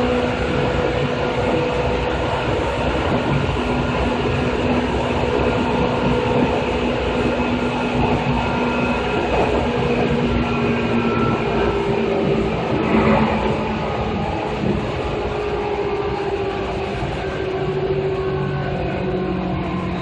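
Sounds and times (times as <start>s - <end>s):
steady train hum: 0.0s - 20.0s
train wheels rumbling on rail: 0.0s - 20.0s.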